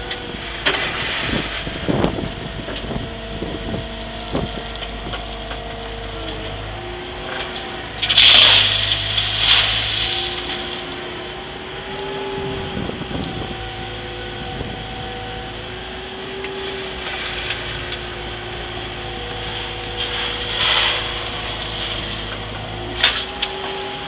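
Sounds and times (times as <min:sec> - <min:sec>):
diesel engine running: 0:00.0 - 0:24.0
gritty rush of gravel: 0:00.0 - 0:24.0
hydraulic whining tones: 0:00.0 - 0:24.0.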